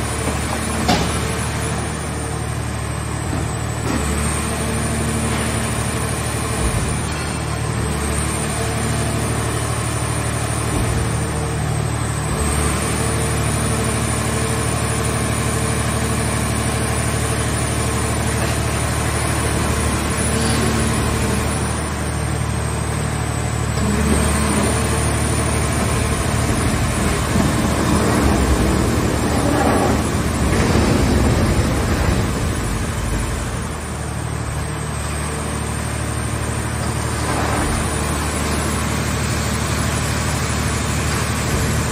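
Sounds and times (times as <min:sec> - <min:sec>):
hydraulic baler humming and whining: 0:00.0 - 0:41.9.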